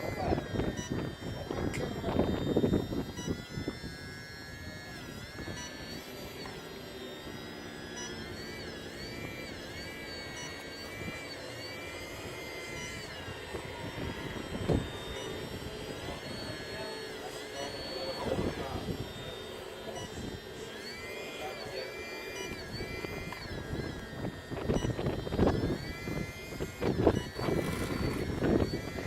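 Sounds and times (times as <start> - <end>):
electric motors whining: 0.0 - 29.0.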